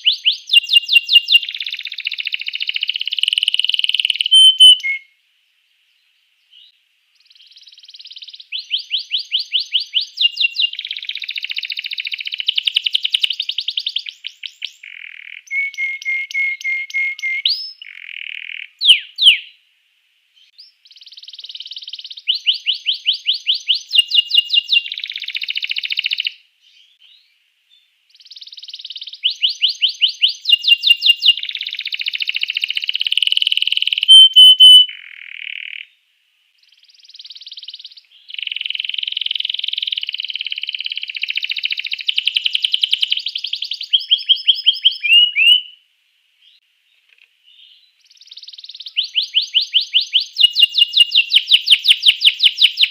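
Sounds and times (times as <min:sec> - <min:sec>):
canary singing trills: 0:00.0 - 0:05.1, 0:06.5 - 0:19.6, 0:20.4 - 0:27.3, 0:28.1 - 0:36.0, 0:36.6 - 0:45.8, 0:47.5 - 0:52.9.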